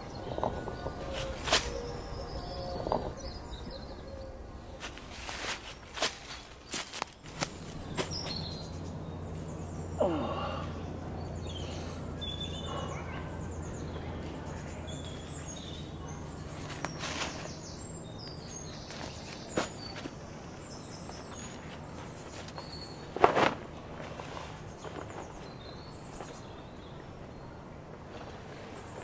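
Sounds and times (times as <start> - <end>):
birds chirping: 0.0 - 29.0
steady low hum: 0.0 - 29.0.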